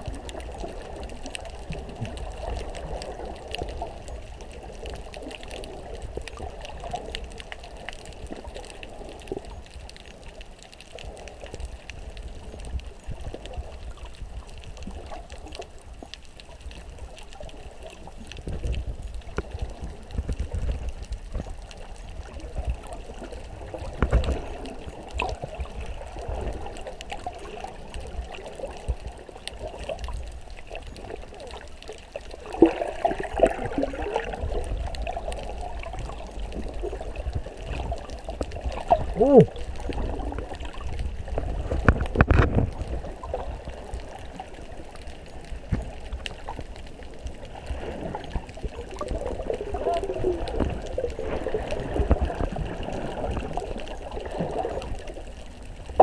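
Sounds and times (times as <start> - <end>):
low underwater rumble: 0.0 - 56.0
muffled underwater sloshing and bubbling: 0.0 - 56.0.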